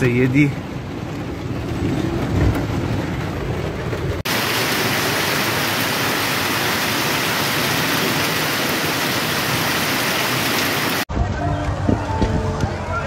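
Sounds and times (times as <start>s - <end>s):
heavy rain pouring: 0.0s - 11.1s.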